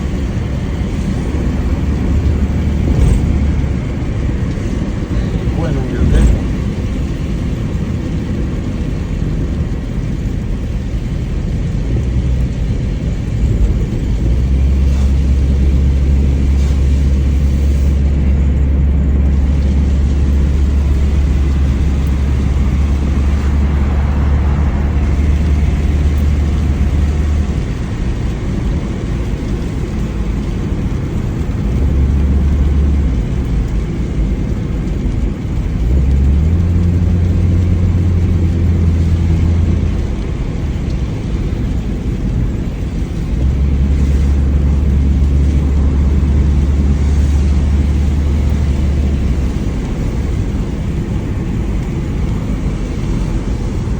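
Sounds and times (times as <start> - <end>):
car engine and road noise: 0.0 - 53.9
heavy low rumble: 0.0 - 53.9.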